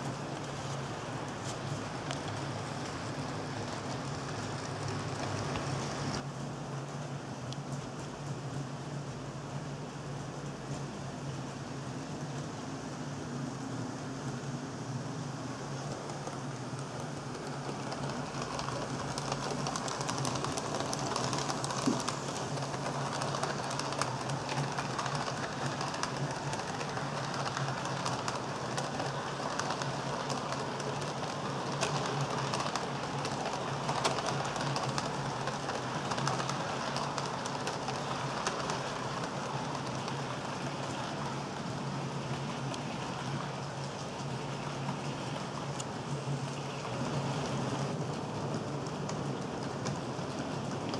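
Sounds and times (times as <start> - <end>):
wheels clicking over rail joints: 0.0 - 6.3, 15.6 - 50.9.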